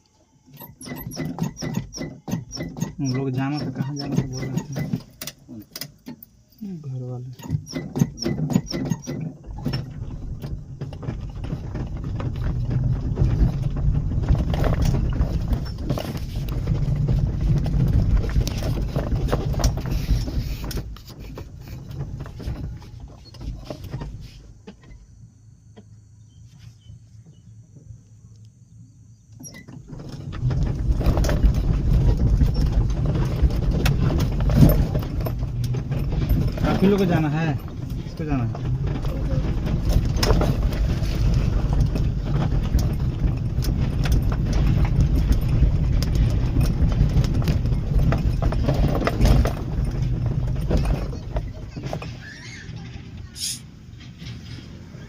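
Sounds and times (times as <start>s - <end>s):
auto-rickshaw engine rumble: 0.0s - 25.1s, 29.1s - 55.0s
rattles and knocks: 0.5s - 6.4s, 7.0s - 25.1s, 29.4s - 55.0s.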